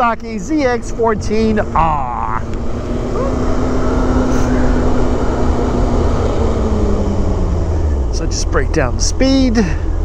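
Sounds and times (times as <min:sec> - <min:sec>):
motorcycle engine humming: 0:00.0 - 0:10.0.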